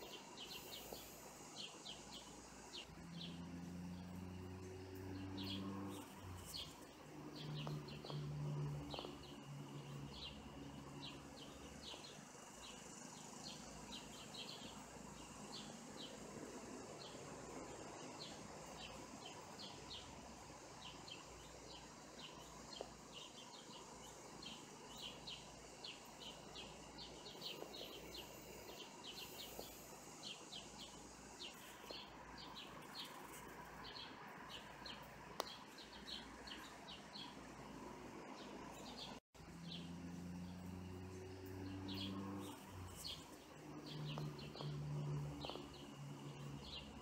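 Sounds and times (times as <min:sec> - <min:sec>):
faint outdoor background: 0:00.0 - 0:47.0
small birds chirping: 0:00.0 - 0:47.0.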